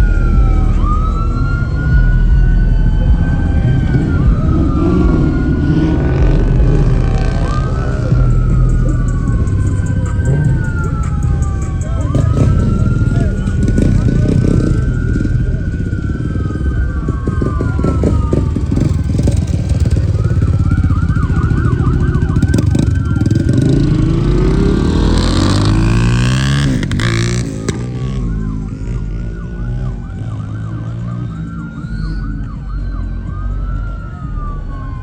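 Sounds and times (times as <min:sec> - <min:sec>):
engine revving up: 0:00.0 - 0:31.6
car engines rumbling: 0:00.0 - 0:35.0
police siren wailing and yelping: 0:00.0 - 0:35.0.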